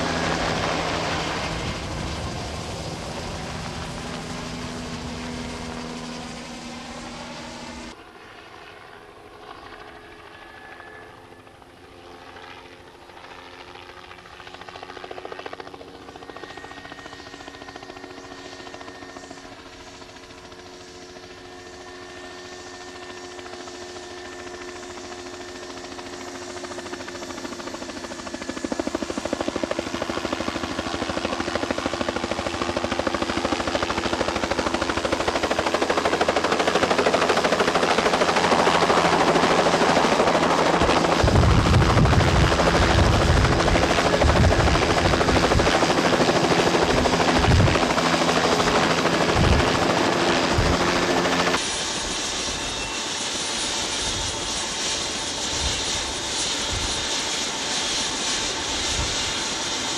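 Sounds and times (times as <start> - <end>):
helicopter turbine and rotor: 0.0 - 59.9.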